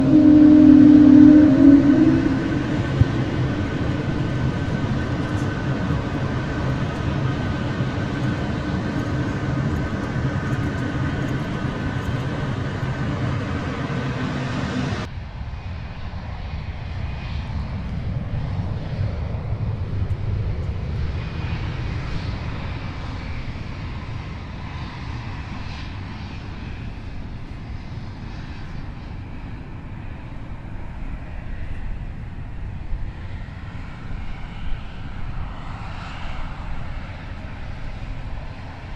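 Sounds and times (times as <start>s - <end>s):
jet engines roaring and whining: 0.0s - 38.9s.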